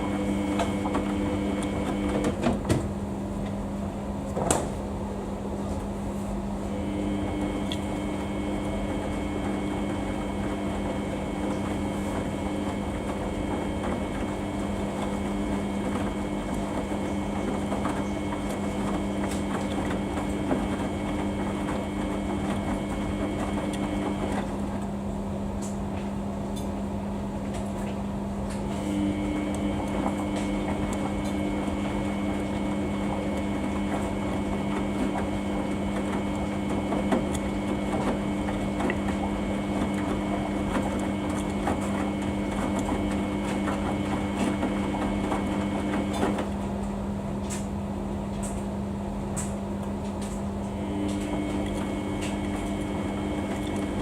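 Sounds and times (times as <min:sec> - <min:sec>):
washing machine motor whine: 0:00.0 - 0:54.0.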